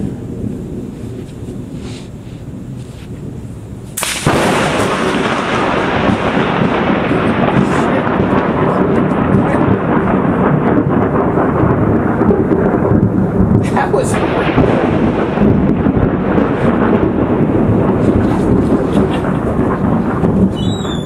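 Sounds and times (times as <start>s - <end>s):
loud continuous thunder: 0.0s - 21.0s
lightning crack: 2.5s - 21.0s.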